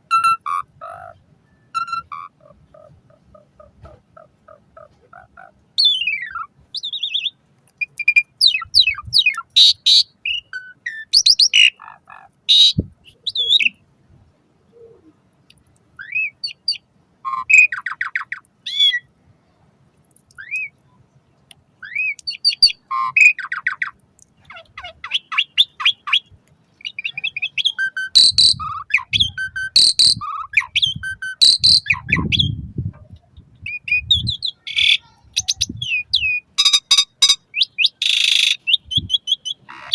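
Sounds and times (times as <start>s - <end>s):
starling singing: 0.1s - 13.8s, 16.0s - 19.1s, 21.8s - 32.7s, 33.3s - 39.9s.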